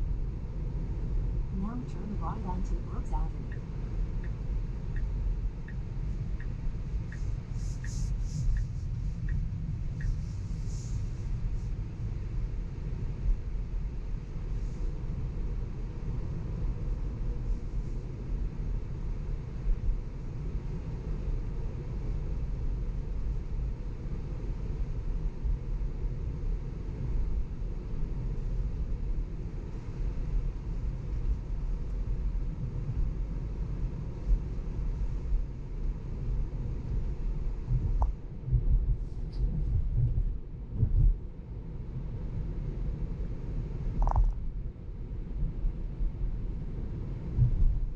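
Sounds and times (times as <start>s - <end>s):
road and tyre rumble: 0.0s - 47.9s.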